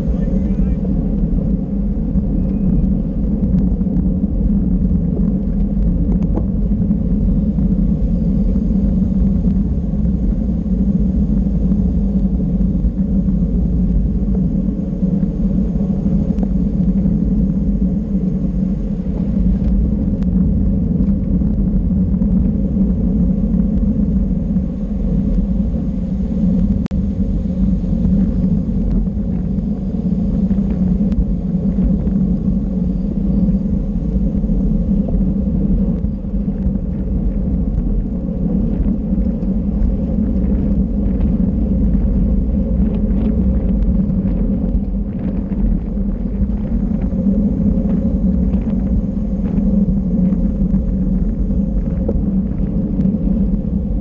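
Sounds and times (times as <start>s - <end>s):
road rumble: 0.0s - 54.0s
wind on microphone: 0.0s - 54.0s.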